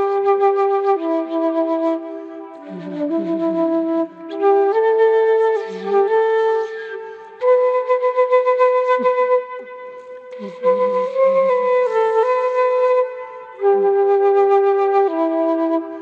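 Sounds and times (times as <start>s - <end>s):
slow flute melody: 0.0s - 16.0s.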